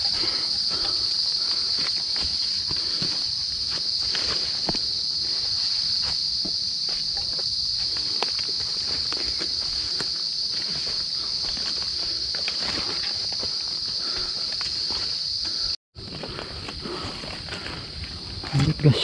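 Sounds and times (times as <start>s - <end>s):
footsteps: 0.0s - 18.6s
insects chorus: 0.0s - 19.0s.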